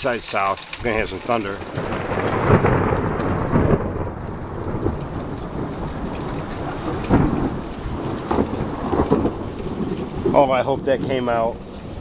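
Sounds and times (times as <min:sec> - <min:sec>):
steady rain: 0:00.0 - 0:12.0
rolling thunder: 0:01.6 - 0:12.0.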